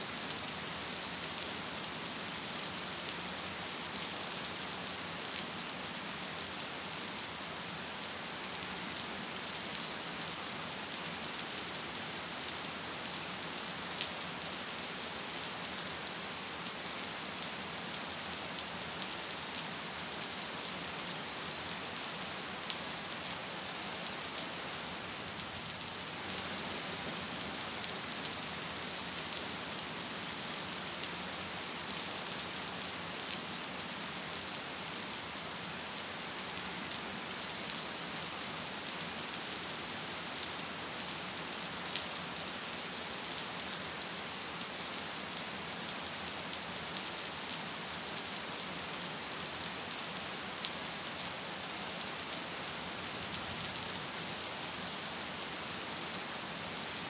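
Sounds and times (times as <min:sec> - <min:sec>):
gentle rain falling: 0:00.0 - 0:57.0.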